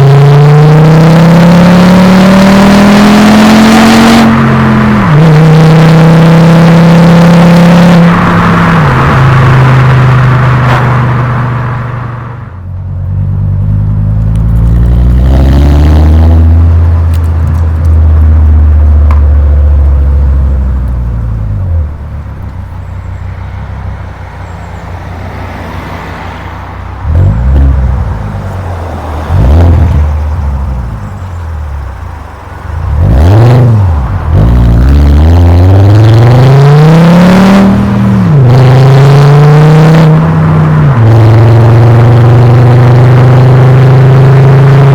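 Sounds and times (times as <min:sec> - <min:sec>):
car exhaust revving: 0:00.0 - 0:44.9.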